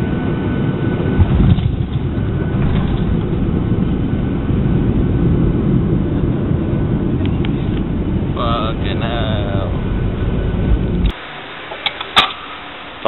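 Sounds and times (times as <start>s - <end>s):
jet cabin engine rumble: 0.0s - 13.0s
wheel noise on runway: 0.0s - 13.0s.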